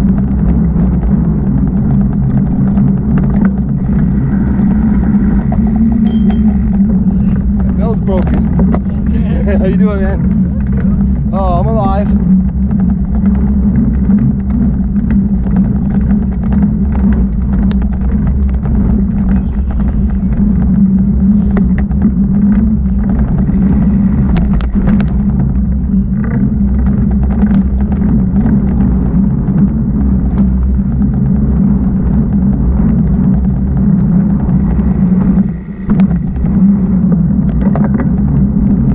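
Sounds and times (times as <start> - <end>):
bike clicks and rattles: 0.0 - 38.9
bike tyre noise: 0.0 - 38.9
wind noise on microphone: 0.0 - 38.9.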